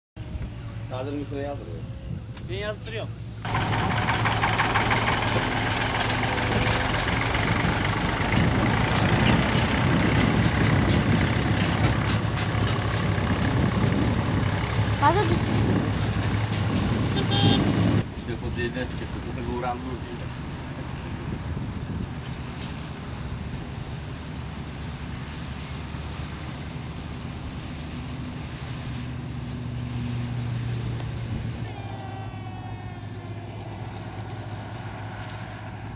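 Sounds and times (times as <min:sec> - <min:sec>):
combine harvester engine hum: 0:00.2 - 0:35.9
tractor running: 0:00.2 - 0:35.9
threshing machinery noise: 0:00.3 - 0:35.9.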